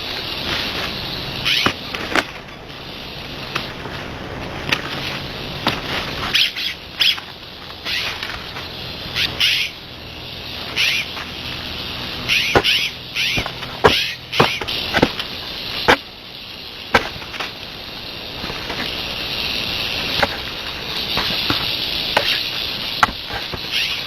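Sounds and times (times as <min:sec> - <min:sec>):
birds chirping: 0:00.0 - 0:24.0
steady hiss: 0:00.0 - 0:24.0.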